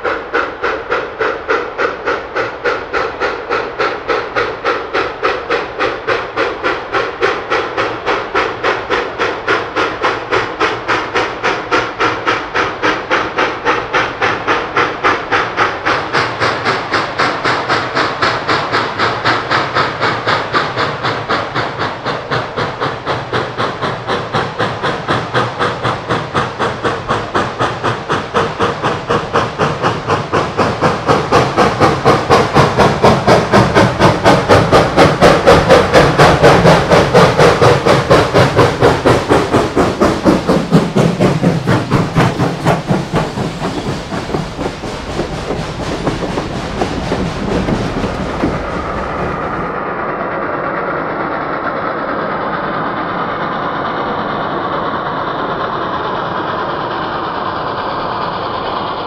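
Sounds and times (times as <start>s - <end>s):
distant train rumble: 0.0s - 59.0s
steam locomotive exhaust beats: 0.0s - 59.0s.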